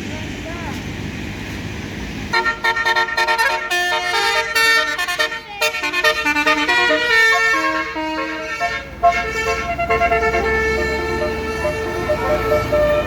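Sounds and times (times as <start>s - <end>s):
melodic bus air horn: 2.3s - 13.0s.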